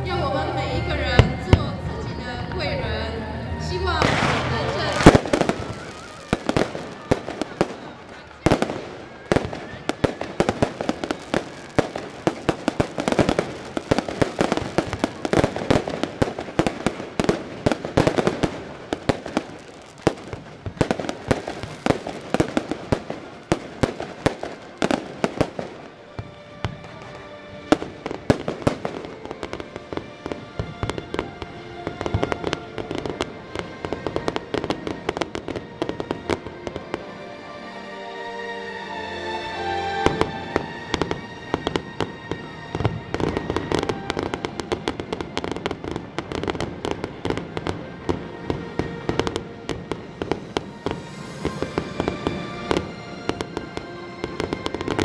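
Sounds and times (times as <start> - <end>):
music: 0.0 - 55.0
fireworks bangs and crackle: 1.0 - 2.5, 4.0 - 37.1, 40.0 - 55.0.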